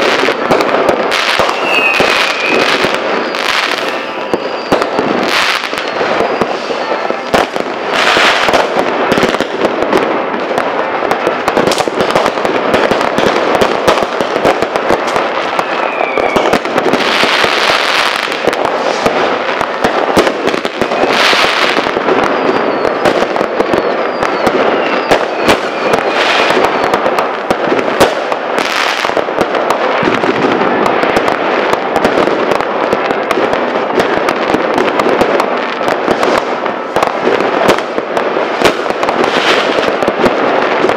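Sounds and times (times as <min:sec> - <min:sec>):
firework whistles: 0:00.0 - 0:32.5, 0:33.7 - 0:40.9
crackling firecrackers: 0:00.0 - 0:40.9
fireworks bangs: 0:00.0 - 0:40.9.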